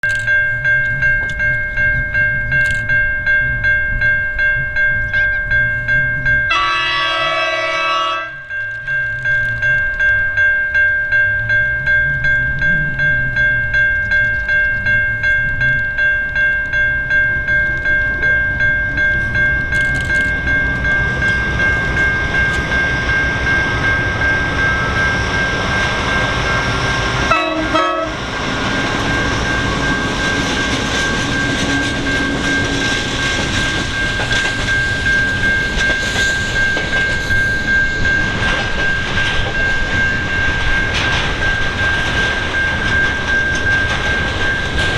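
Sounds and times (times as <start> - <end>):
high pulsing ringing tone: 0.0 - 44.9
train rumbling and rattling: 0.0 - 44.9.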